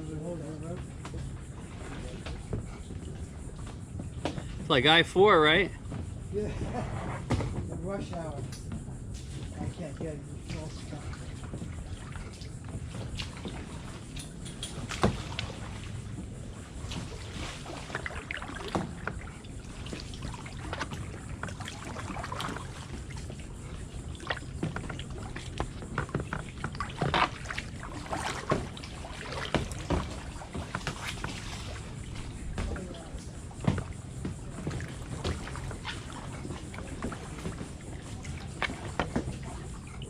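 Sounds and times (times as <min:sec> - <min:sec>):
paddles splashing in water: 0:00.0 - 0:40.0.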